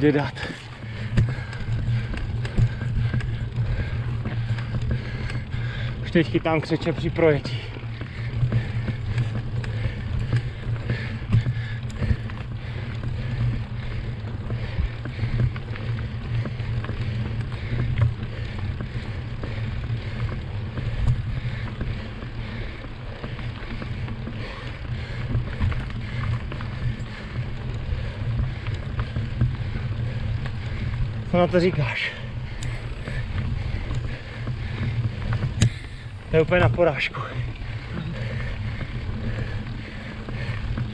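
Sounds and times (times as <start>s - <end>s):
bike clicks and rattles: 0.0s - 40.9s
tyres rolling on dirt: 0.0s - 40.9s.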